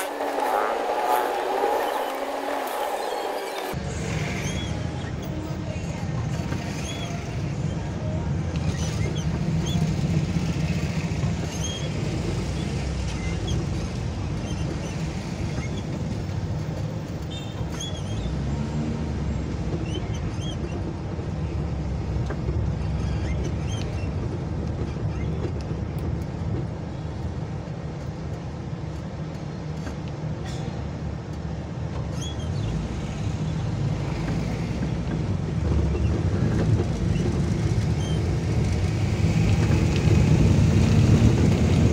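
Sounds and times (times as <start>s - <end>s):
traffic rumble: 0.0s - 41.9s.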